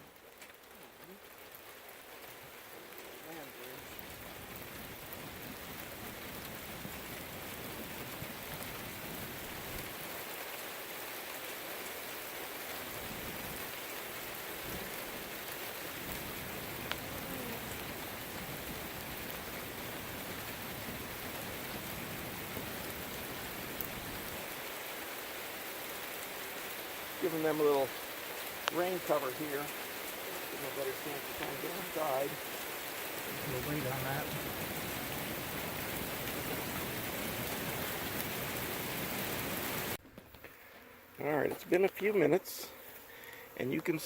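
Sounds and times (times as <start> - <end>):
steady rain: 0.0 - 40.6, 41.2 - 44.0.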